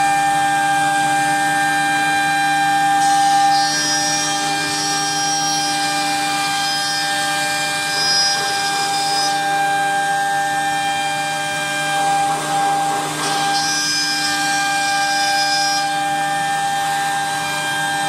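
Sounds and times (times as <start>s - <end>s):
end mill cutting wood: 0.0s - 18.0s
router spindle whining: 0.0s - 18.0s.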